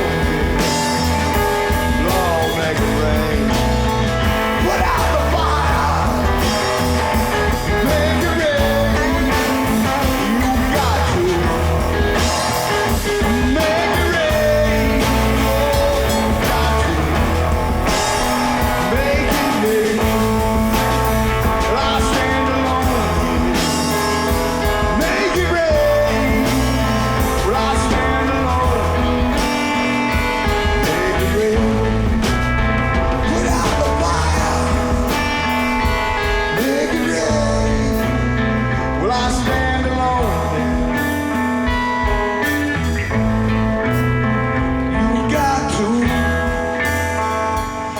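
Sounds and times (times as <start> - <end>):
lead guitar soloing: 0.0 - 47.9
live blues-rock band: 0.0 - 47.9.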